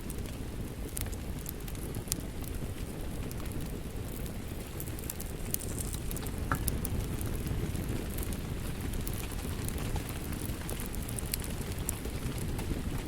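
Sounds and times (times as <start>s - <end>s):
fire low rumble: 0.0s - 13.0s
wood fire crackling: 0.0s - 13.0s.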